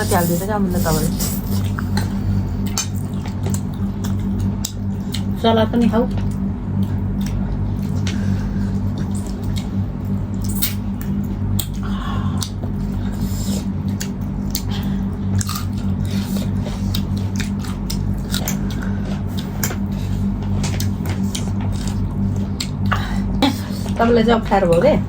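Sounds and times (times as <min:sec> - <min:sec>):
people chewing and crunching food: 0:00.0 - 0:25.0
steady low hum: 0:00.0 - 0:25.0.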